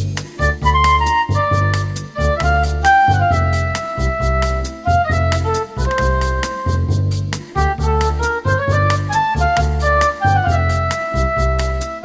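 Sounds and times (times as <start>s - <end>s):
steady ticking beat: 0.0s - 11.8s
deep bass line: 0.0s - 12.0s.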